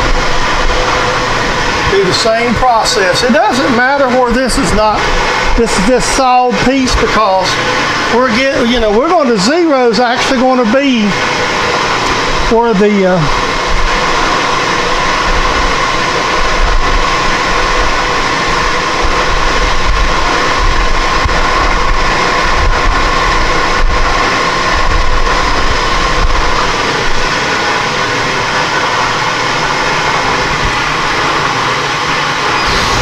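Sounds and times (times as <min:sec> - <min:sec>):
milling machine running: 0:00.0 - 0:33.0.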